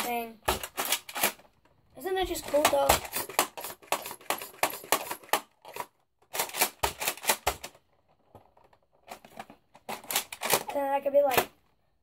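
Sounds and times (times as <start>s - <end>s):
plastic toy blaster clicks and rattles: 0.0s - 1.6s, 2.2s - 11.6s.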